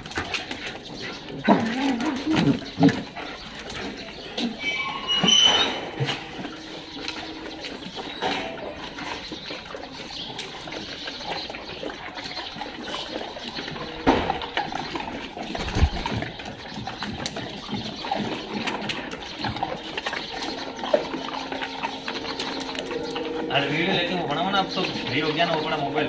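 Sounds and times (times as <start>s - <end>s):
dogs sniffing and breathing: 0.0s - 26.0s.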